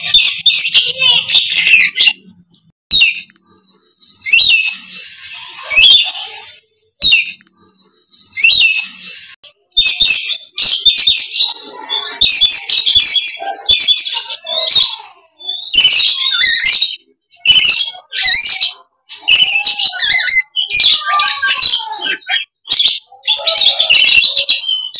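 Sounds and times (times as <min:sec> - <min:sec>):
lories screeching: 0:00.0 - 0:24.9.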